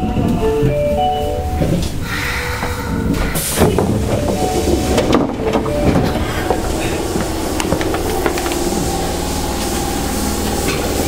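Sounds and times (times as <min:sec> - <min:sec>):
subway train humming: 0:00.0 - 0:11.0.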